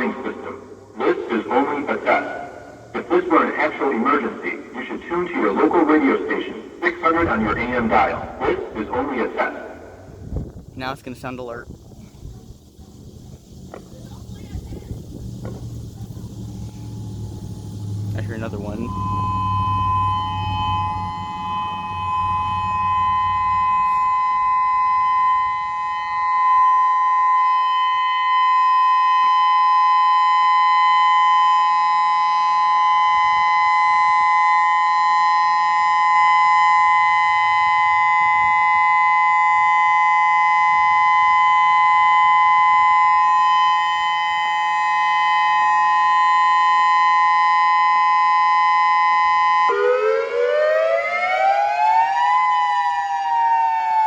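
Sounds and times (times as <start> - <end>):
outdoor warning siren: 0.0 - 54.0.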